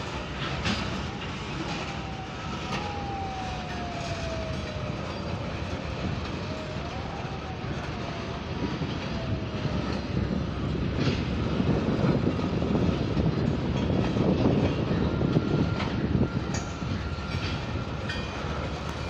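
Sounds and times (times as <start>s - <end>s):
train wheels rumbling on track: 0.0s - 19.0s
wheels clicking over rail joints: 0.0s - 19.0s.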